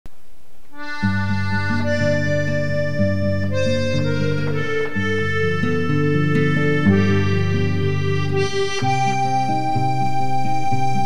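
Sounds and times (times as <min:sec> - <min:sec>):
bass and chord accompaniment: 0:00.8 - 0:11.0
melody notes: 0:00.8 - 0:11.0.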